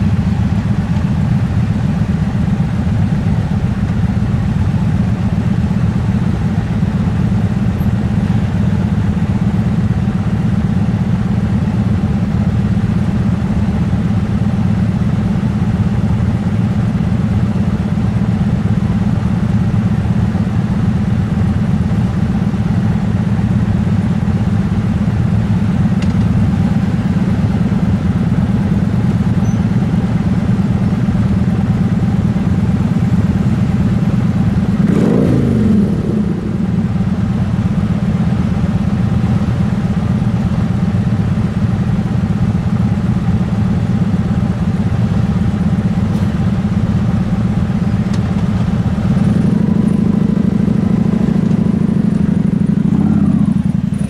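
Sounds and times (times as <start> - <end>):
motorcycle engines rumbling: 0.0 - 54.0
motorcycle revving: 0.0 - 54.0.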